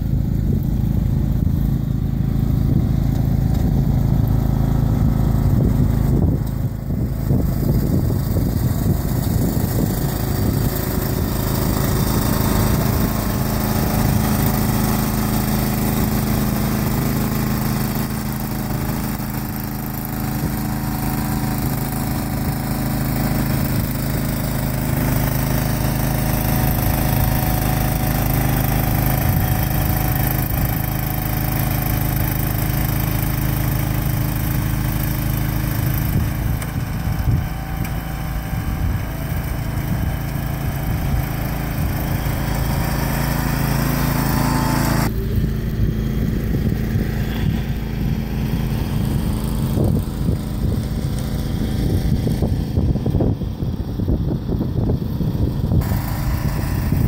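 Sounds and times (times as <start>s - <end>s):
snowblower throwing snow: 0.0s - 53.4s, 54.8s - 57.0s
garden tractor engine running: 0.0s - 57.0s.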